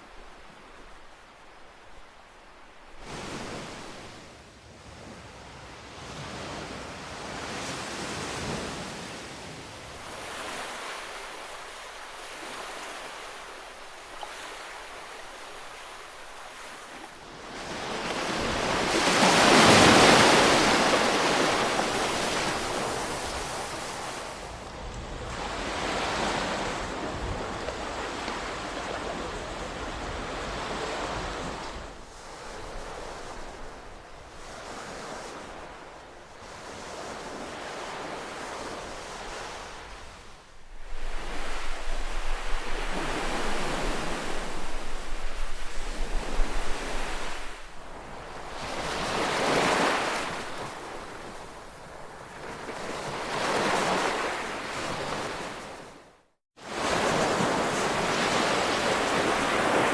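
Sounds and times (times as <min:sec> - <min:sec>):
ocean waves washing in: 0:00.0 - 0:04.4, 0:05.8 - 0:56.0.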